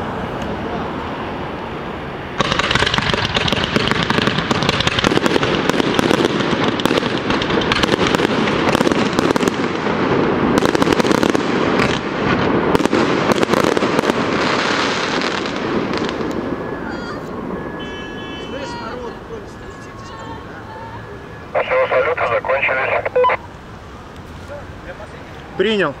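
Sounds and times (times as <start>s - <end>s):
fireworks crackling: 2.4s - 26.0s.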